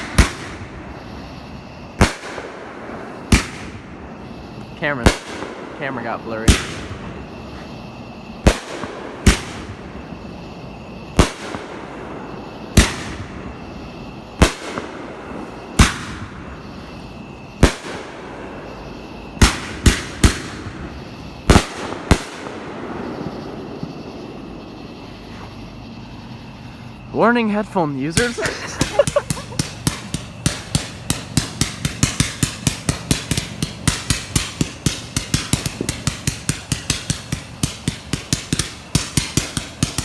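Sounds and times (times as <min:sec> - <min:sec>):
fireworks banging: 0:00.0 - 0:40.0.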